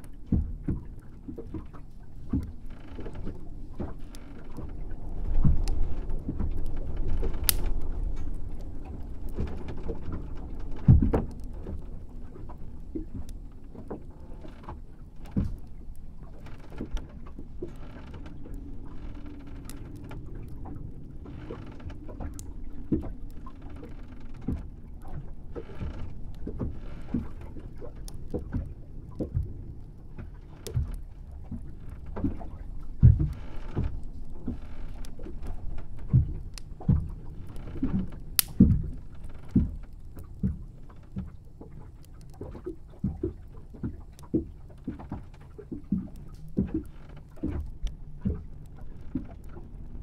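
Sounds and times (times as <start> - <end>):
hollow knocks and hull creaks: 0.0 - 50.0.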